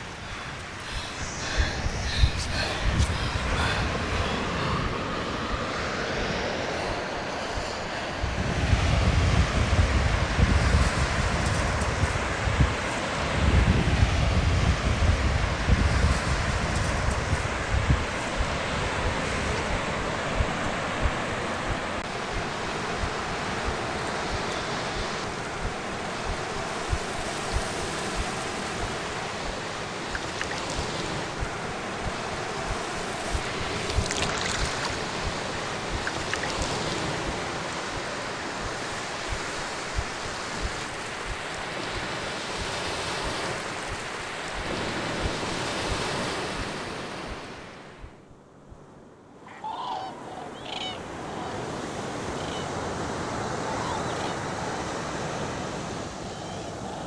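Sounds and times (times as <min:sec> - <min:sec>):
surf washing over rocks: 0:00.0 - 0:48.0
wind buffeting microphone: 0:00.0 - 0:48.8.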